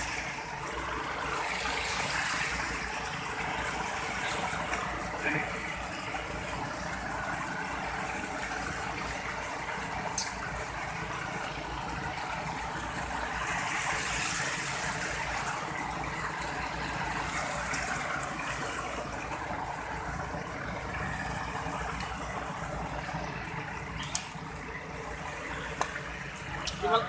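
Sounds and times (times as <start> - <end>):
pump engine running: 0.0 - 27.0
water and sand slurry rushing: 0.0 - 27.0.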